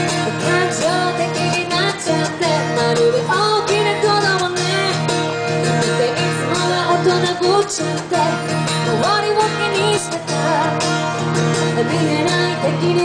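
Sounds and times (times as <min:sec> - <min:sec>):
strummed acoustic guitar: 0:00.0 - 0:13.0
woman singing into microphone: 0:00.0 - 0:13.0.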